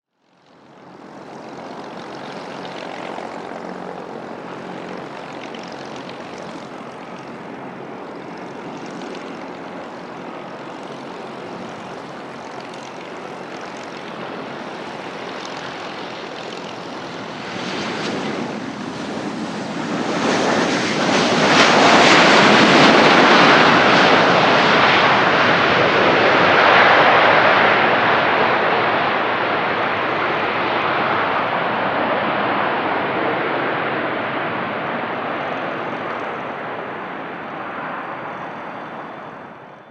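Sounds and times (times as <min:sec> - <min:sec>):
jet engine noise: 0:00.2 - 0:39.9.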